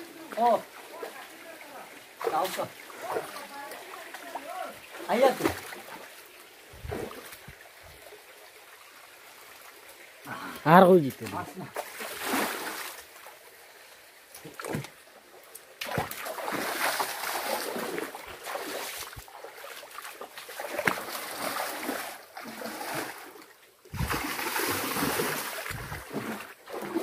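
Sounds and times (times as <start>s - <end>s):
bare feet splashing in a stream: 0.0s - 10.2s, 11.1s - 13.5s, 14.3s - 27.0s.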